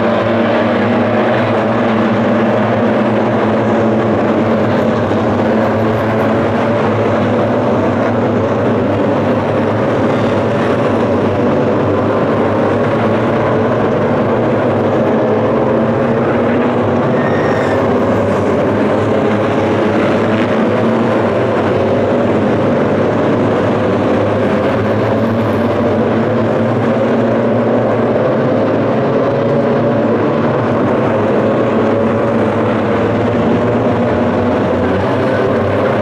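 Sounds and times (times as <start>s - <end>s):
race car engines accelerating: 0.0s - 36.0s.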